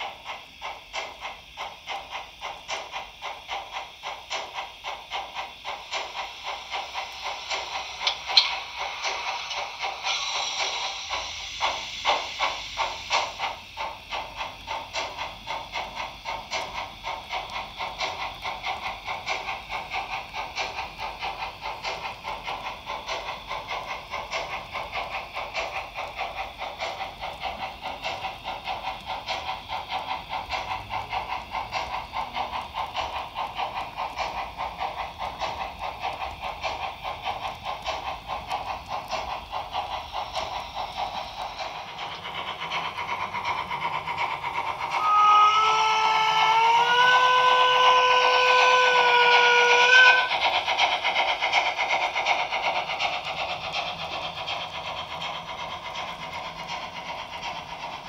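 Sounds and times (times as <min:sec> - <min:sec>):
model steam locomotive chuffing: 0:00.0 - 0:58.0.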